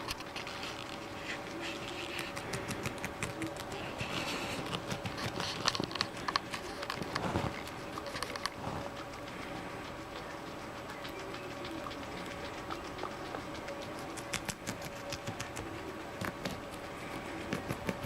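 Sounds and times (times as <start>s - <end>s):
faint steady hum: 0.0s - 18.0s
guinea pigs crunching leaves: 0.0s - 18.0s.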